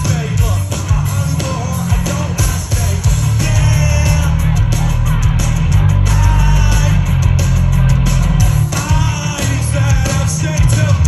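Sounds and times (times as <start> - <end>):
live rock music: 0.0 - 11.0.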